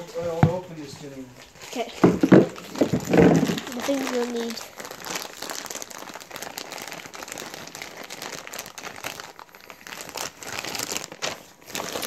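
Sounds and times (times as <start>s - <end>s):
toy packaging crinkling: 1.6s - 12.0s.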